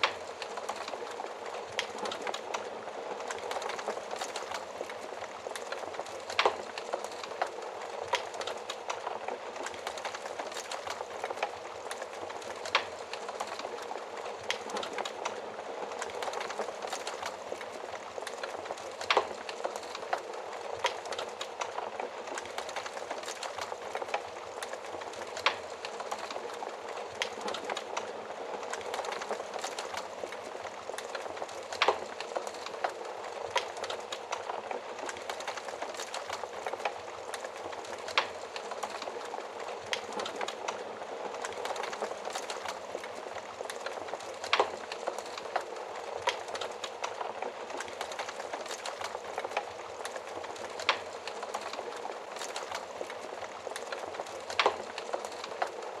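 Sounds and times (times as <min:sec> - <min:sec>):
fire popping: 0:00.0 - 0:56.0
wood fire crackling: 0:00.0 - 0:56.0.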